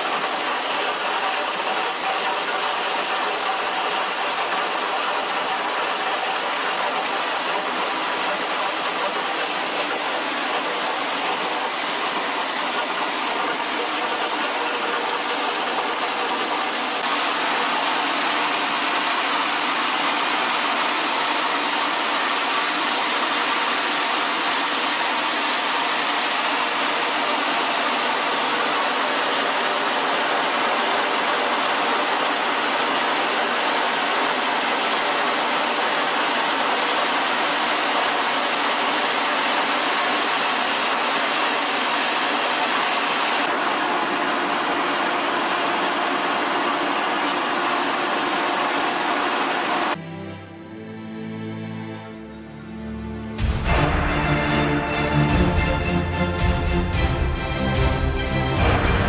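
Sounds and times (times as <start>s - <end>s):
machine running steadily: 0.0s - 50.0s, 53.4s - 59.0s.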